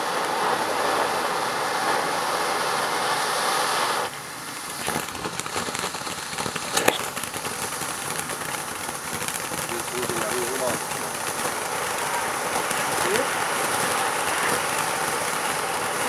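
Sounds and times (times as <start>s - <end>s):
firework crackling and popping: 0.0s - 16.0s
firework fountain hissing: 0.0s - 16.0s.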